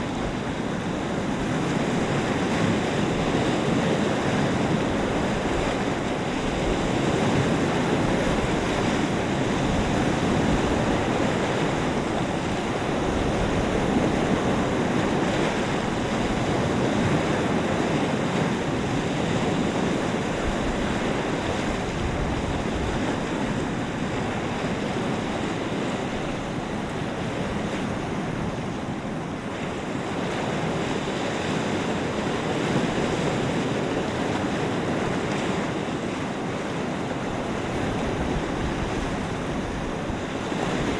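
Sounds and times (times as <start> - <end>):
small waves rushing: 0.0 - 40.9
wind buffeting microphone: 0.0 - 40.9
wind gusts: 0.0 - 40.9.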